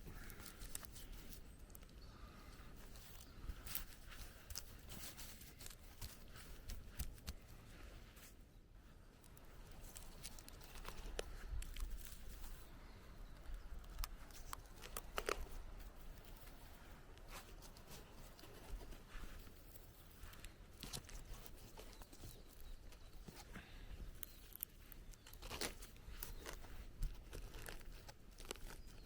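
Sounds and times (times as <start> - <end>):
dry wood and leaves crackling: 0.0 - 29.0.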